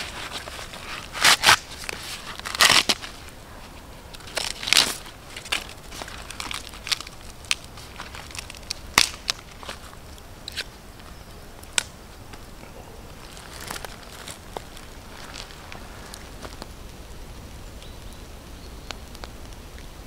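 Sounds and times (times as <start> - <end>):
corn husks tearing and rustling: 0.0 - 17.0
campfire embers popping: 0.0 - 20.0.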